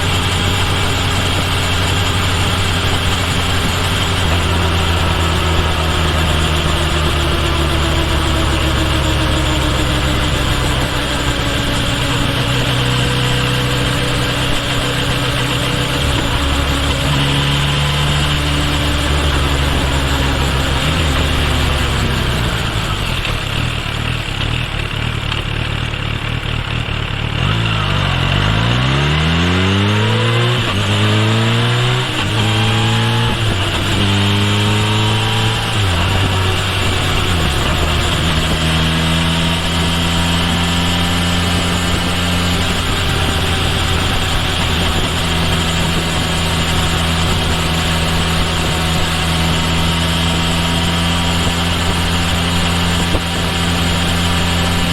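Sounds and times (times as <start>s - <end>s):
motorcycle engine accelerating: 0.0s - 54.9s
wind and road noise: 0.0s - 54.9s.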